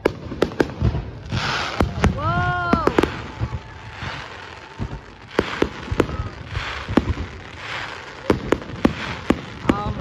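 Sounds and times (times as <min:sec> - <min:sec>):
fireworks bangs: 0:00.0 - 0:10.0
hissing crackle: 0:00.0 - 0:10.0.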